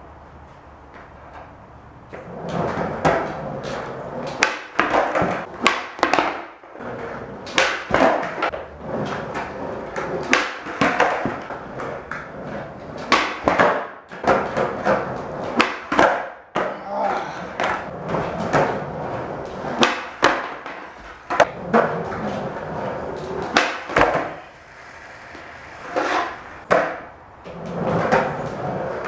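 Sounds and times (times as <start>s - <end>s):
skateboard rolling: 0.0s - 29.0s
skateboard pops and clacks: 2.1s - 16.8s, 17.6s - 29.0s.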